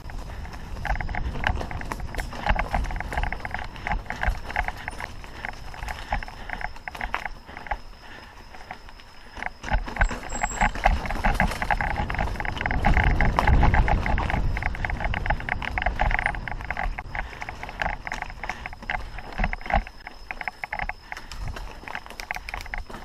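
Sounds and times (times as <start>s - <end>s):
bike frame and tyres clattering: 0.0s - 23.0s.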